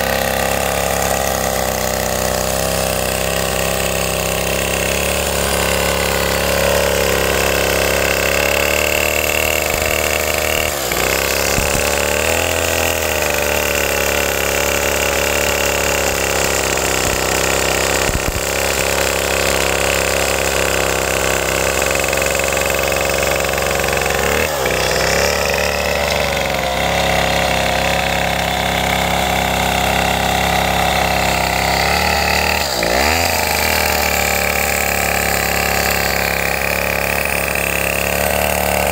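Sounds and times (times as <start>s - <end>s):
chainsaw cutting into log: 0.0s - 38.9s.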